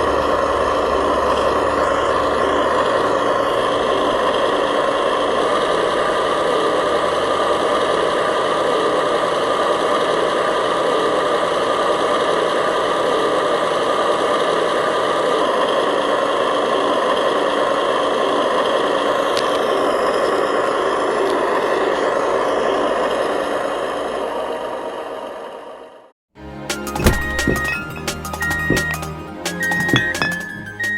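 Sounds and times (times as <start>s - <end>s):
electric motor and gearbox whine: 0.0s - 26.0s, 26.9s - 30.9s.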